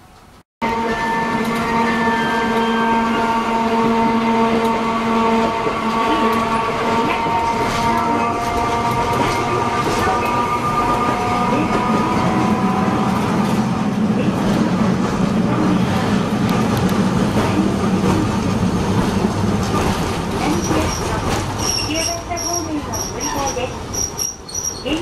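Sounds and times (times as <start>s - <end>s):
tram wheels rumbling on rail: 0.0s - 25.0s.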